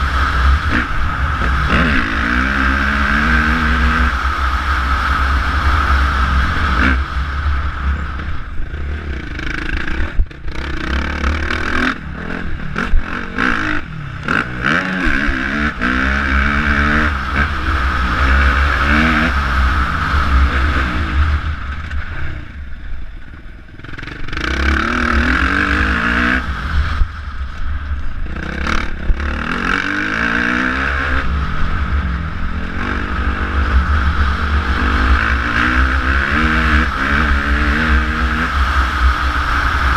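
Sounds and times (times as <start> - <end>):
motorbike engine revving: 0.0 - 22.6, 23.8 - 27.2, 28.2 - 39.9.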